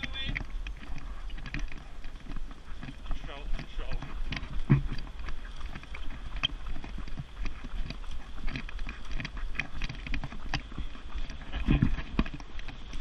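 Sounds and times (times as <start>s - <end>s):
running footsteps on pavement: 0.0s - 13.0s.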